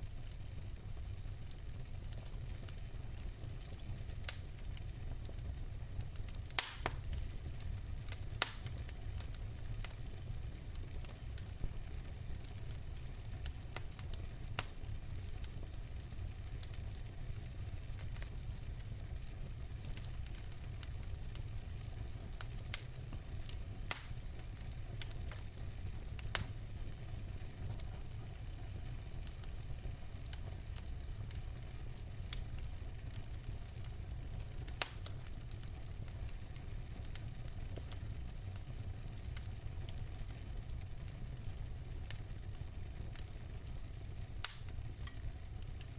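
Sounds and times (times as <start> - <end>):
wood fire burning: 0.0 - 45.9.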